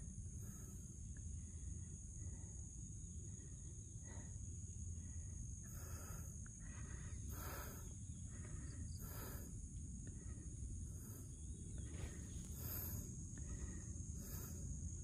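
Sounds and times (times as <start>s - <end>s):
high insect drone: 0.0s - 15.0s
person breathing hard: 0.3s - 15.0s.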